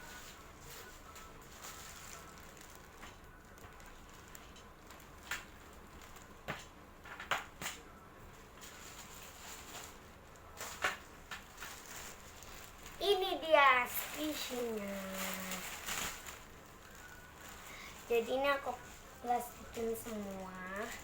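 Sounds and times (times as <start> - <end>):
low steady background hiss: 0.0 - 21.0.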